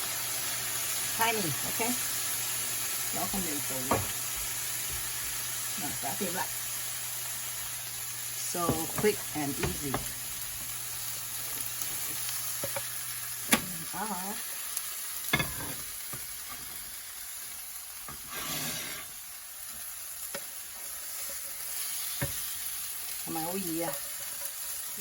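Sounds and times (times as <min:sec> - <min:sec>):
omelette sizzling in a pan: 0:00.0 - 0:25.0.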